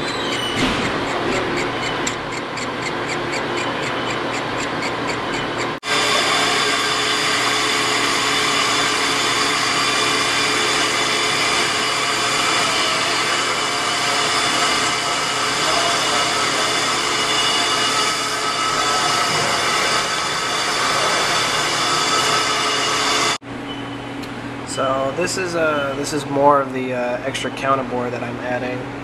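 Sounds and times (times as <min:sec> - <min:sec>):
metal lathe whining: 0:00.0 - 0:23.4.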